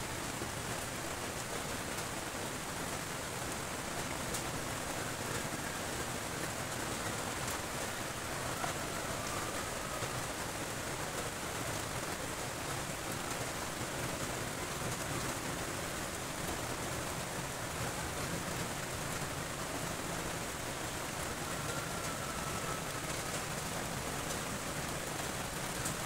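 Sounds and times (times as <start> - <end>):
faint ticks of raindrops: 0.0 - 26.0
steady rain falling: 0.0 - 26.0.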